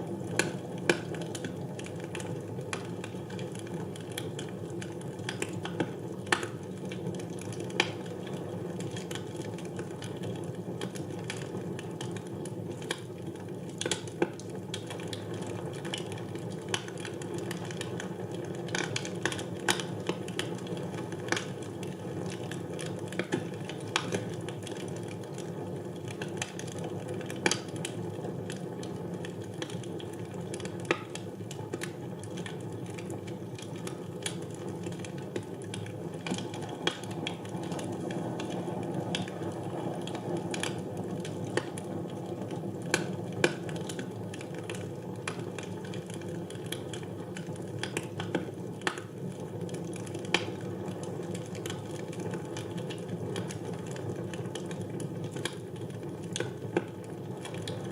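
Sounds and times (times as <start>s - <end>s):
fire crackling in a fireplace: 0.0s - 57.9s.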